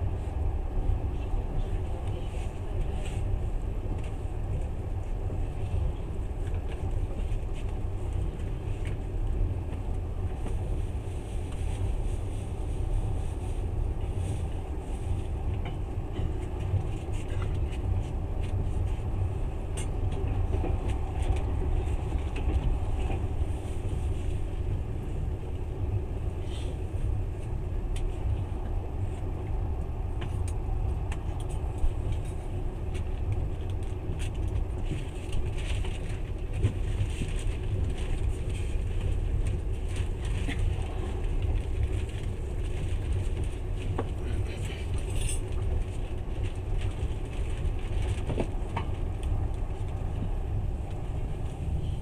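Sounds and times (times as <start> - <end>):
train rumbling on track: 0.0 - 52.0.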